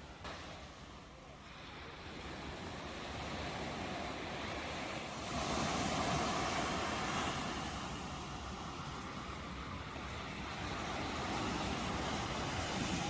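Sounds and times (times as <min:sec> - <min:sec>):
ocean waves washing on shore: 0:00.0 - 0:13.0.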